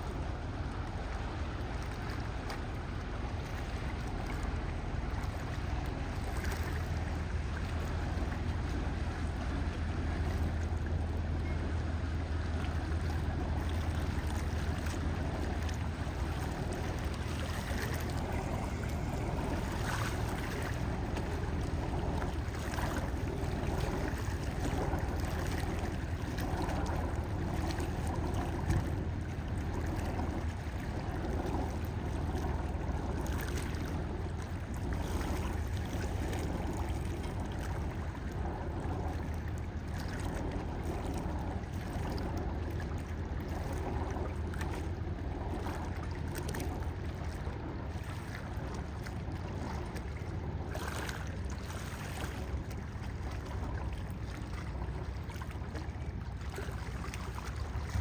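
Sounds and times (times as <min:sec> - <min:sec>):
boat engine humming: 0:00.0 - 0:58.0
water washing: 0:01.8 - 0:58.0.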